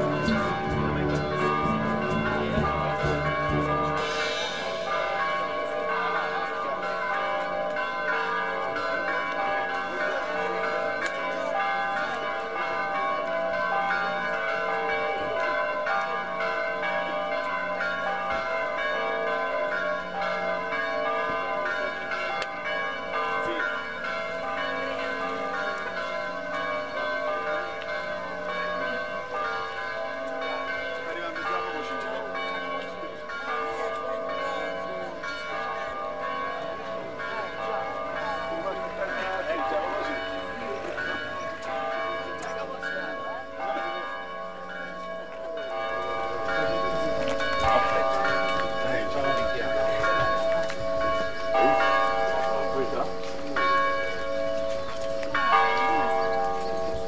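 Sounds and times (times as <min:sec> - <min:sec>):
church bells pealing: 0:00.0 - 0:57.0
murmur of people talking: 0:00.0 - 0:57.0.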